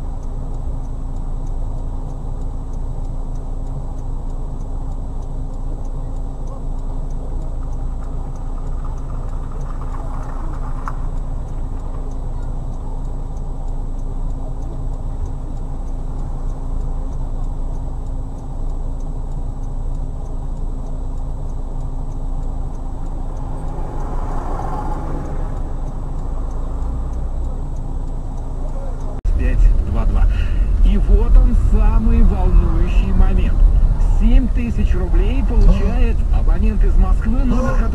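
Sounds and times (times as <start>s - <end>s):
engine and road rumble: 0.0s - 37.9s
faint regular ticking: 0.0s - 37.9s.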